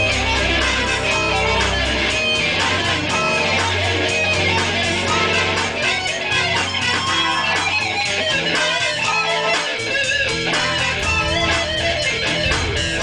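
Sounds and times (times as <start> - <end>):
guitar-led music with beat: 0.0 - 13.0.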